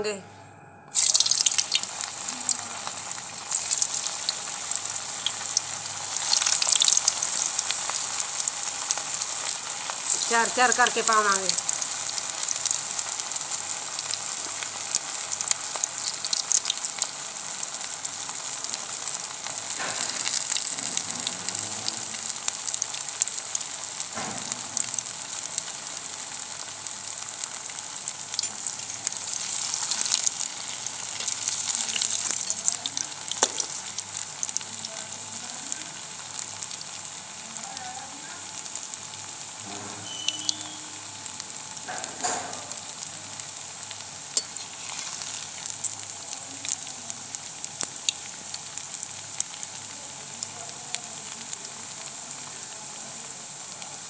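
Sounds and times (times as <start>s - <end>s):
food deep-frying in oil: 0.9s - 54.0s.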